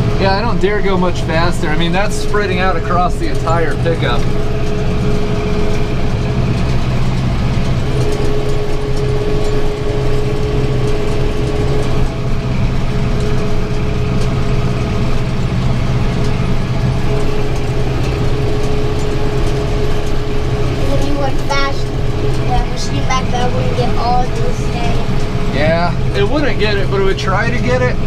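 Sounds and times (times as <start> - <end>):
steady high whine: 0.0 - 28.0
tractor engine running: 0.0 - 28.0.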